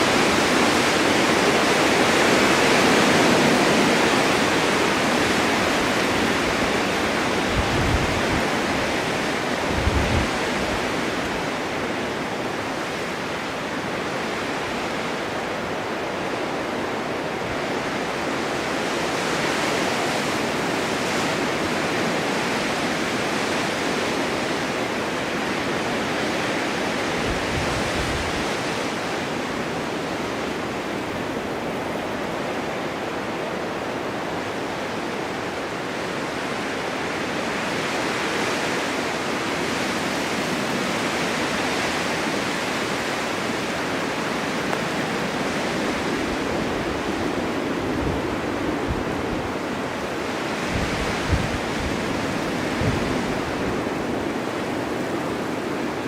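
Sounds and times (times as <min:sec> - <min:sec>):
blizzard wind blowing: 0:00.0 - 0:56.0
low wind buffet: 0:00.0 - 0:56.0.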